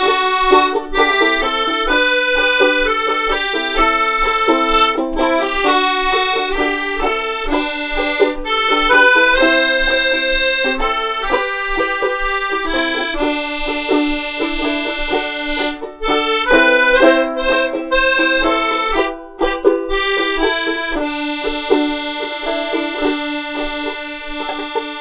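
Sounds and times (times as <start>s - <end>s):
accordion chords: 0.0s - 25.0s
banjolele strumming: 0.0s - 25.0s.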